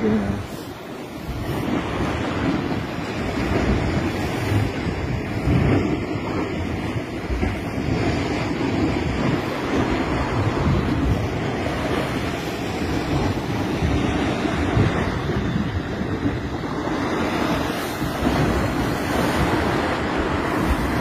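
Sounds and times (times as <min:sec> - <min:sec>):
water sloshing and lapping: 0:00.0 - 0:21.0
wind buffeting microphone: 0:00.0 - 0:21.0.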